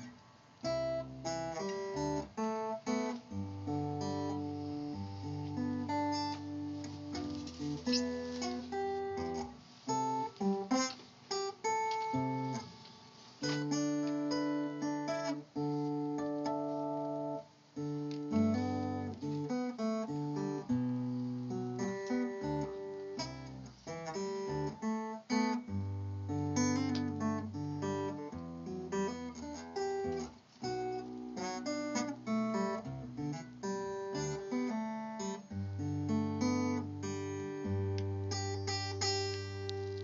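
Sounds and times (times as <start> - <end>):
acoustic guitar playing: 0.0 - 40.0.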